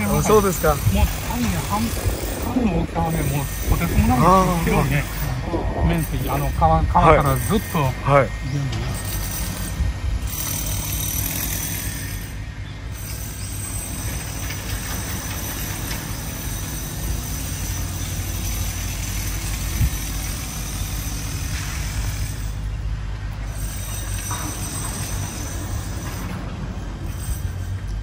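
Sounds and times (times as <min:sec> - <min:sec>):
street noise rumble: 0:00.0 - 0:28.0.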